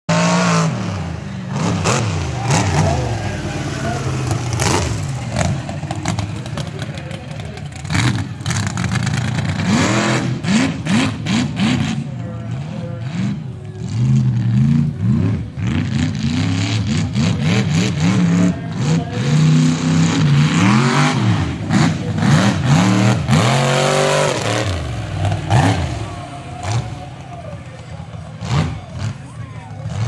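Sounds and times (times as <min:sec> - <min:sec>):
truck engine revving: 0:00.1 - 0:30.0.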